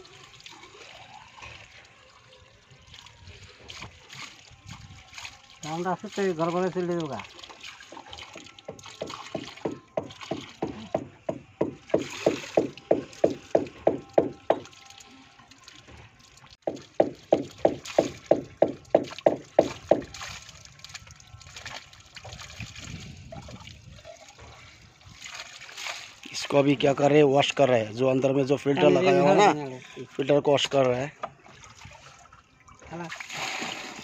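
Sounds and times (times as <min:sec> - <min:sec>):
water glugging into a pipe: 0:00.0 - 0:34.0.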